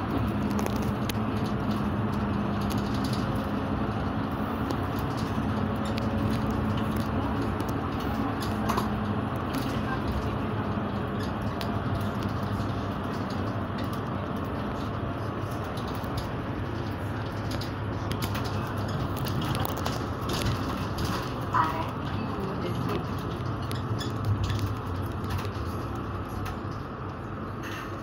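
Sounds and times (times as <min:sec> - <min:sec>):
light rattles: 0:00.0 - 0:27.6
bus engine drone: 0:00.0 - 0:28.0.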